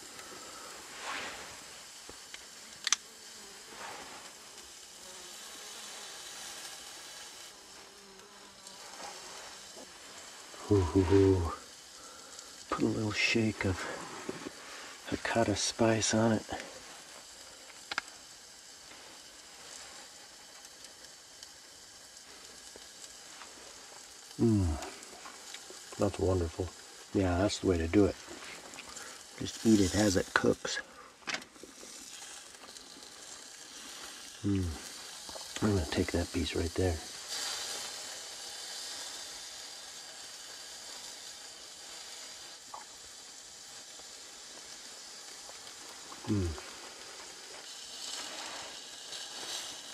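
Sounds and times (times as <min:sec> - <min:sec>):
steak sizzling with crackles: 0:00.0 - 0:49.9.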